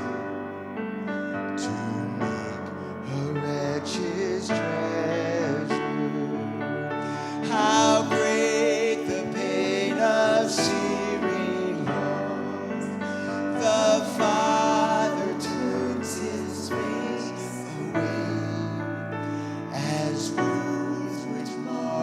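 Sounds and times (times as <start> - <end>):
held instrumental chords: 0.0 - 22.0
person singing a slow hymn: 0.0 - 22.0.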